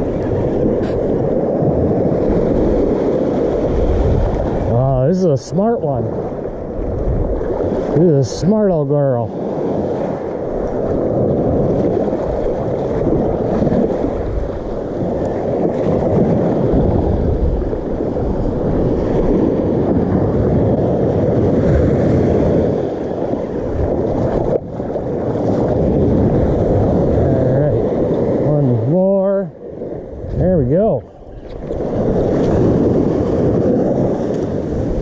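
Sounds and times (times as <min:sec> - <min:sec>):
small waves washing onto beach: 0:00.0 - 0:35.0
wind noise on microphone: 0:00.0 - 0:35.0.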